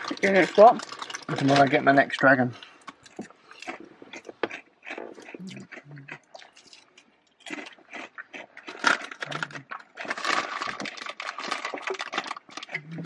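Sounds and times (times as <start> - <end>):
snack packaging crinkling: 0.0 - 13.0.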